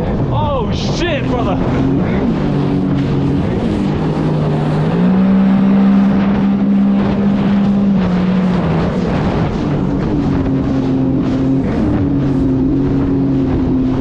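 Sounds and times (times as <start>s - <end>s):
jet ski engine running: 0.0s - 14.0s
steady rush of noise: 0.0s - 14.0s.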